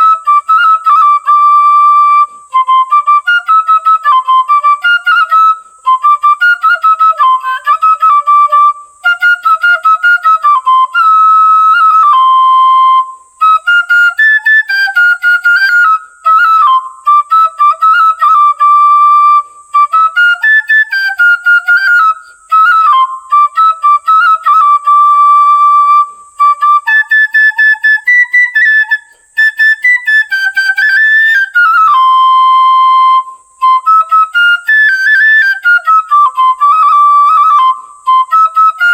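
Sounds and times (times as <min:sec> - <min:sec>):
bamboo flute melody: 0:00.0 - 0:38.9.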